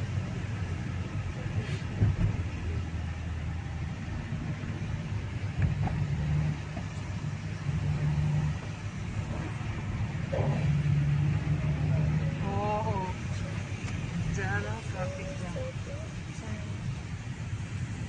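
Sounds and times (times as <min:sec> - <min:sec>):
car engine low rumble: 0:00.0 - 0:18.0.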